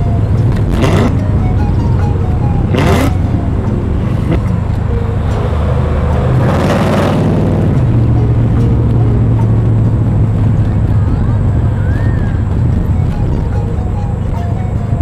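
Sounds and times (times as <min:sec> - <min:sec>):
car engine rumbling: 0:00.0 - 0:15.0
rush of noise: 0:00.0 - 0:15.0.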